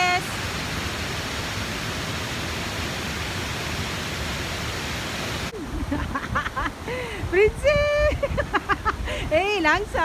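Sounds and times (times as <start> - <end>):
rushing water of stream: 0.0 - 10.0.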